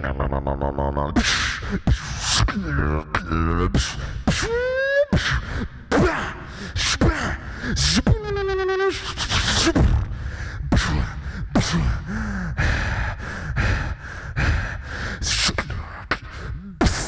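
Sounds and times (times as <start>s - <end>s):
person beatboxing into a microphone: 0.0s - 17.0s.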